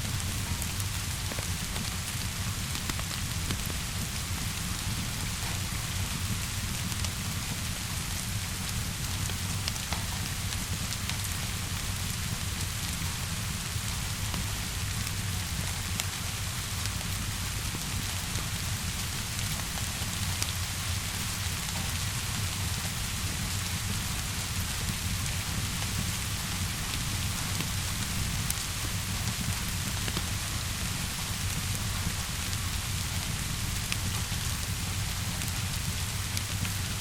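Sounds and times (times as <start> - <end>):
steady rainfall: 0.0 - 37.0
wood fire crackling: 0.1 - 37.0.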